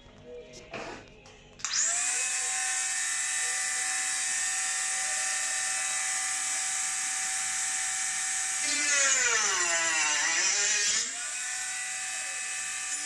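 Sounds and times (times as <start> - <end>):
angle grinder running: 1.7 - 13.0.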